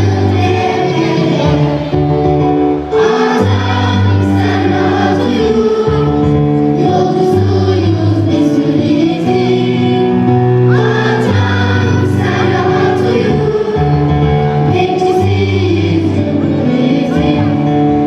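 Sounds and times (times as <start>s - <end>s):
choir singing: 0.0s - 18.0s
instrumental backing track: 0.0s - 18.0s.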